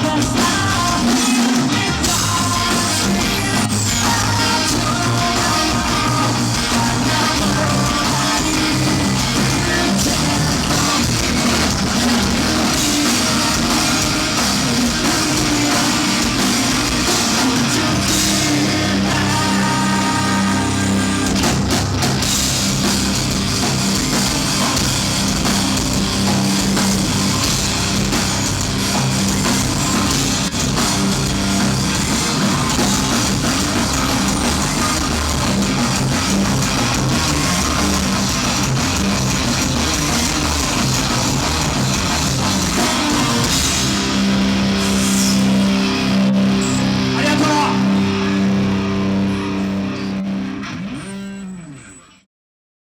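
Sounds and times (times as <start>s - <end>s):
live rock band playing: 0.0s - 51.8s.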